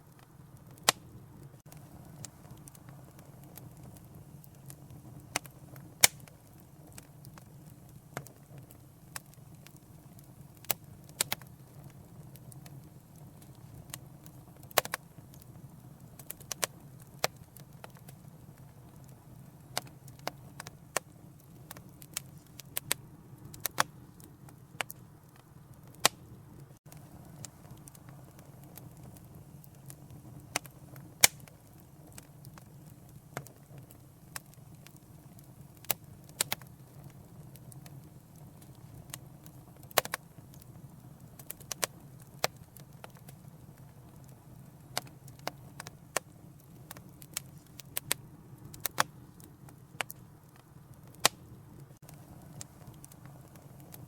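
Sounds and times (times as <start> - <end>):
low roar of flames: 0.0 - 54.0
wood fire crackling and popping: 0.0 - 54.0.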